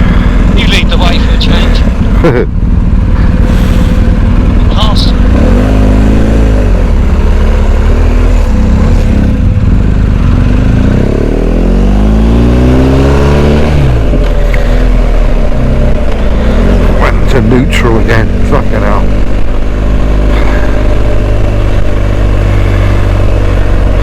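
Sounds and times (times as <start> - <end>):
low rumble: 0.0 - 24.0
motorcycle engine accelerating: 0.0 - 24.0.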